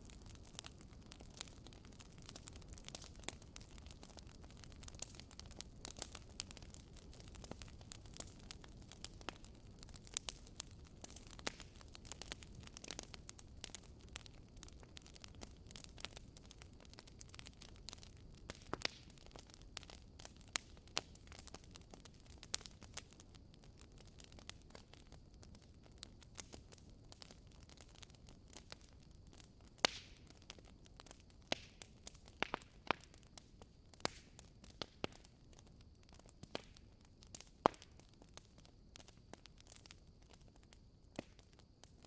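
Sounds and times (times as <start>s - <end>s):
logs crackling and popping: 0.0s - 42.0s.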